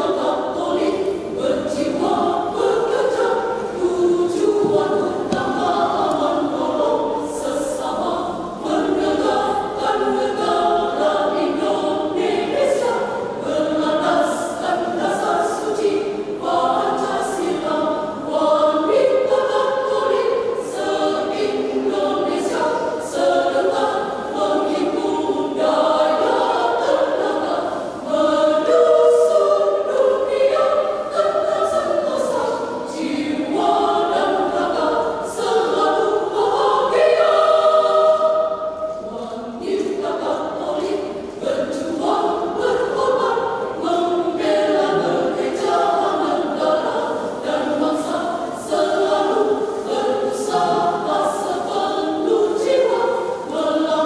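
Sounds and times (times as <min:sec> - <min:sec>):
women's choir singing: 0:00.0 - 0:54.0.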